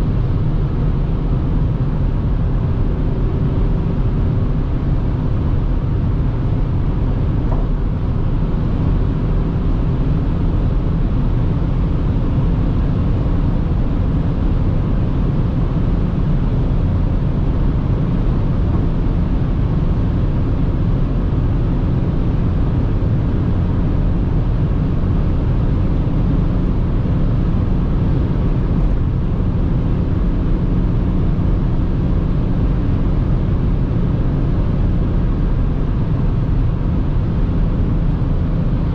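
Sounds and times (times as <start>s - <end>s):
car cabin rumble at high speed: 0.0s - 38.9s.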